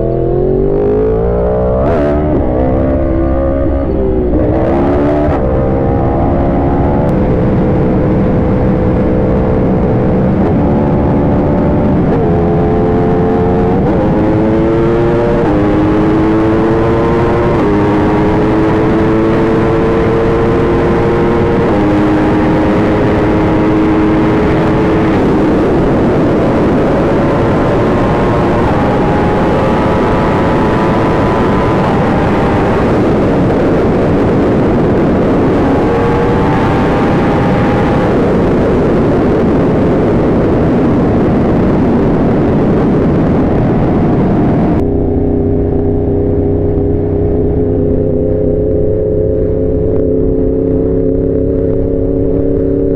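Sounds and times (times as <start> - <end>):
motorcycle engine running hard: 0.0 - 52.9
wind rush on microphone: 0.0 - 52.9.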